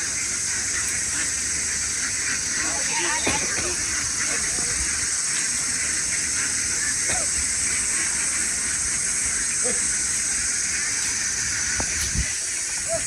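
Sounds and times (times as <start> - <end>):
high-pitched outdoor hiss: 0.0 - 13.0.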